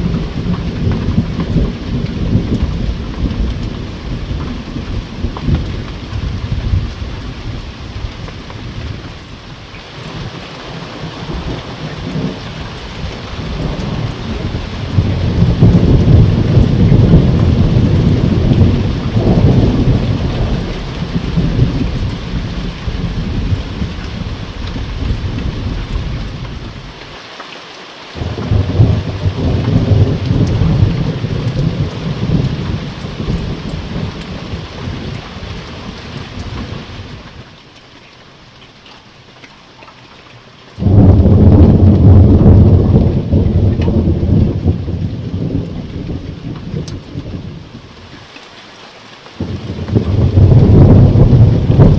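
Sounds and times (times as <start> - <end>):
thunder rumbling: 0.0 - 9.4, 10.0 - 27.0, 28.2 - 37.4, 40.8 - 48.1, 49.4 - 51.9
steady rain: 0.0 - 51.9.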